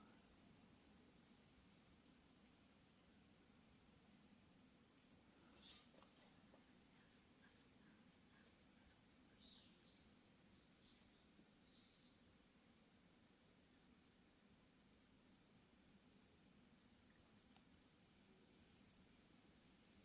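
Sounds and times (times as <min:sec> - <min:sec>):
insect trill: 0:00.0 - 0:20.0.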